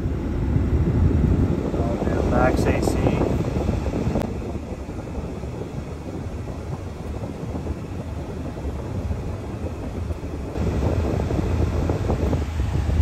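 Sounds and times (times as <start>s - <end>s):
car engine running at raised revs: 0.0s - 13.0s
climate fan blowing: 0.0s - 13.0s.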